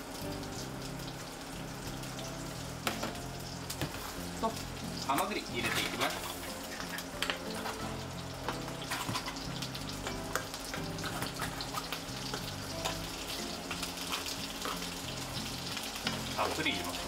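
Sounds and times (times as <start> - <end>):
food sizzling in a frying pan: 0.0 - 17.0
soft background melody: 0.0 - 17.0.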